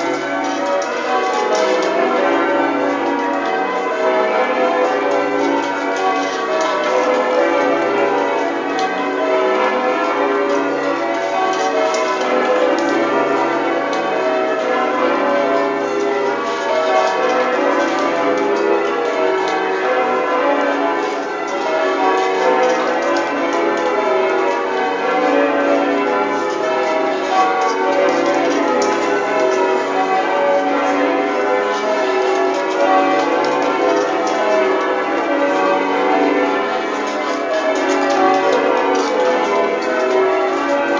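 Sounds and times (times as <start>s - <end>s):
tower bells change ringing: 0.0s - 40.9s.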